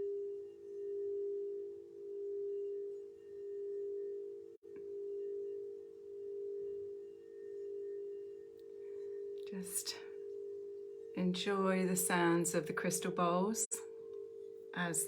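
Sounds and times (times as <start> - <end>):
crystal singing bowl tone: 0.0 - 15.0.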